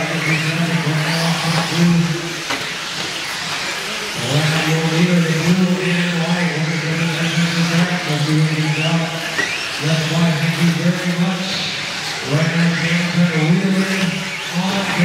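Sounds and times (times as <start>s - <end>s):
toy truck motors whining: 0.0s - 15.0s.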